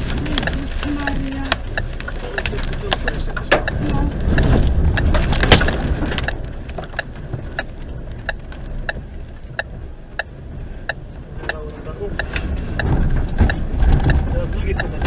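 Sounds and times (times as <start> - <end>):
gusting wind rumbling: 0.0 - 15.0
regular ticking: 0.0 - 15.0.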